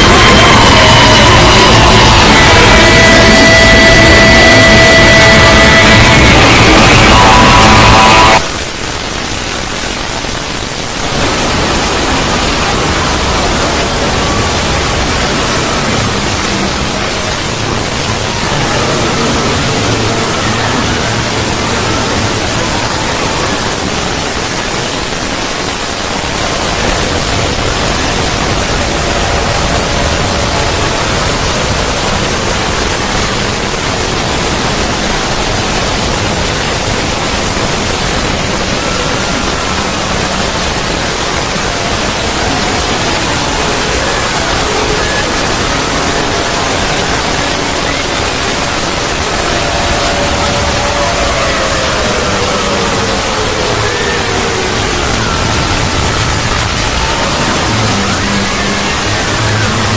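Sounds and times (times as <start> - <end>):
loud rushing noise: 0.0 - 59.9.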